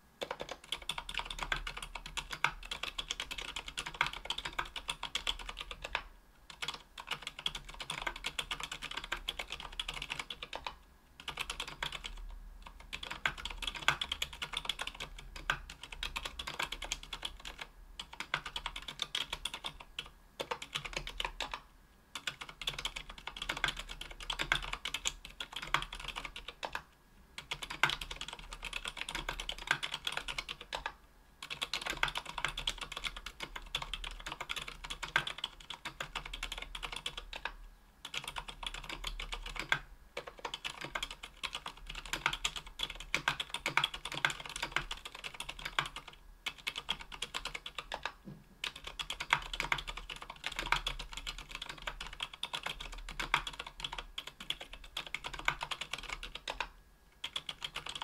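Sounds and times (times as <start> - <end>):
mechanical keyboard typing: 0.2 - 58.0.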